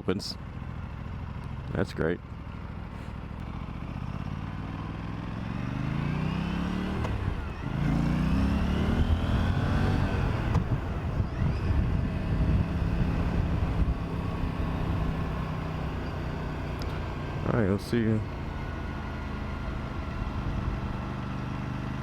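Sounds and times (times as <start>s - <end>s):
motorcycle engine accelerating: 2.3s - 22.0s.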